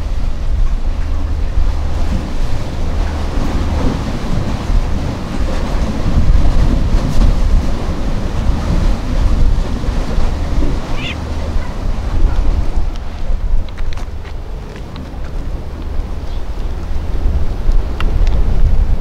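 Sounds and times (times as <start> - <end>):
sea washing against breakwater: 0.0 - 19.0
wind rumbling on microphone: 0.0 - 19.0.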